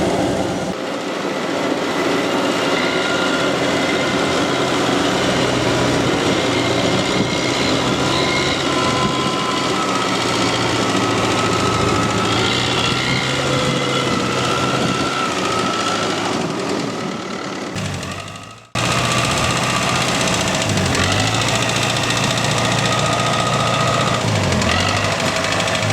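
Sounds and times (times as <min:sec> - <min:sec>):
engine hum: 0:00.0 - 0:25.9
high wavering squeals: 0:02.4 - 0:16.5, 0:18.8 - 0:25.9
machinery clatter: 0:02.7 - 0:25.9.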